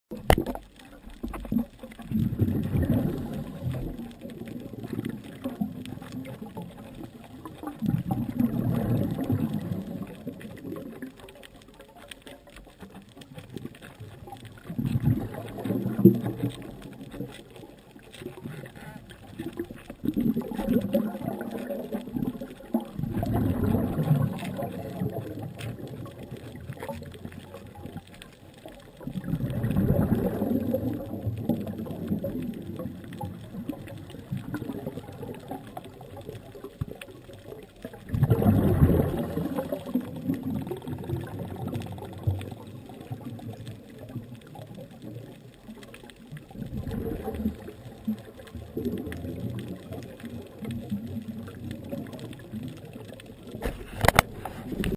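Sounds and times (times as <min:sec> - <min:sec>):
exhaled bubbles rushing: 0:00.1 - 0:54.9
low underwater hiss: 0:00.2 - 0:54.9.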